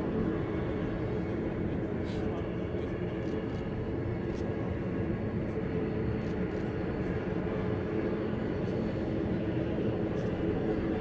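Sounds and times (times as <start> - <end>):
turboprop engines droning: 0.0 - 11.0.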